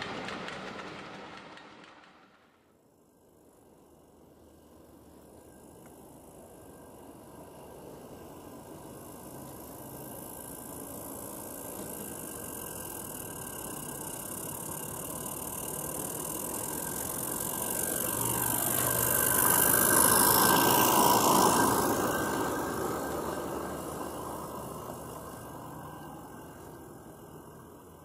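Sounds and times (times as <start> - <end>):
model steam locomotive passing: 0.0 - 28.0.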